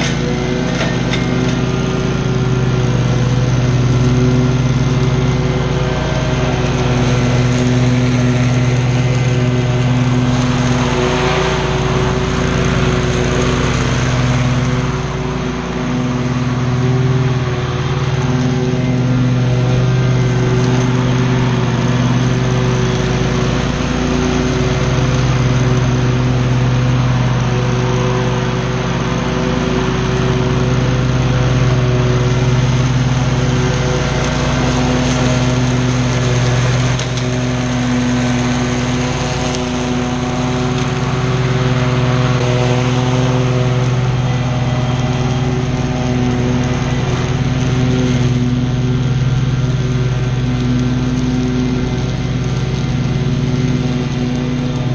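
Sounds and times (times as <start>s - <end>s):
lawn mower engine: 0.0s - 54.9s
mower blades cutting grass: 0.0s - 54.9s.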